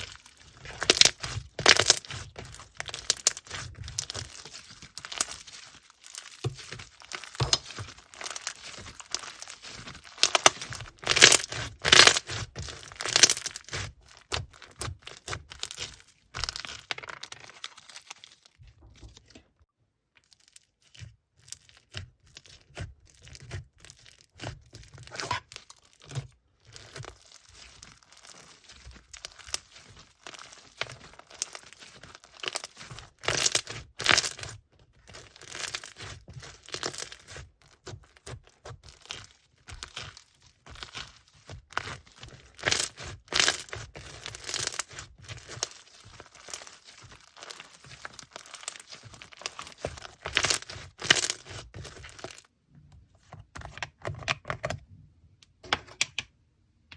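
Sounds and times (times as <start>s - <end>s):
slime and packaging crackling: 0.0s - 54.8s.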